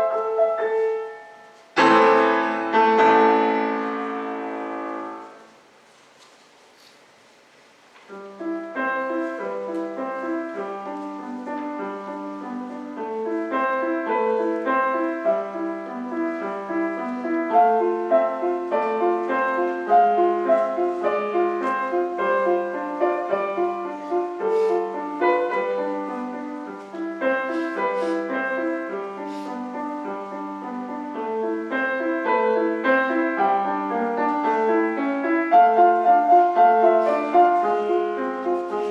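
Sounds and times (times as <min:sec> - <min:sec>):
solo piano: 0:00.0 - 0:06.2, 0:07.6 - 0:38.9.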